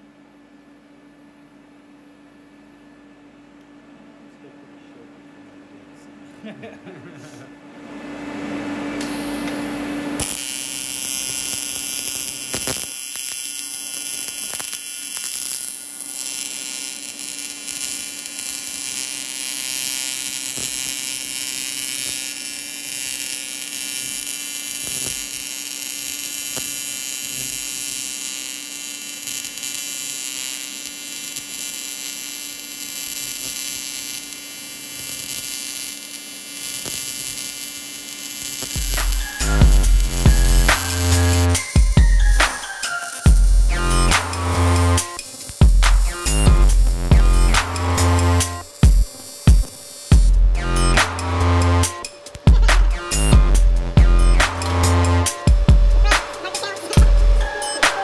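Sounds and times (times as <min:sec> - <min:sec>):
welding arc buzzing: 0:08.8 - 0:58.0.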